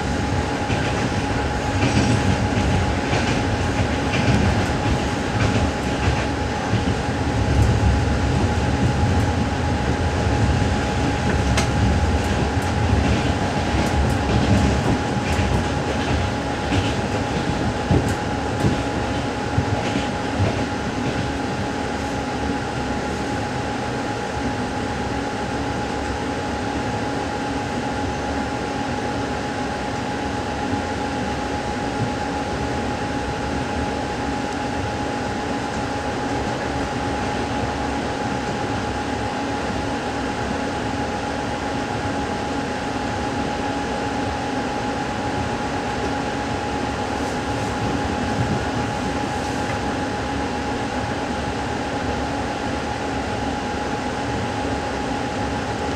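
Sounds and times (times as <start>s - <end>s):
constant hum: 0.0s - 55.9s
train running noise: 0.0s - 55.9s.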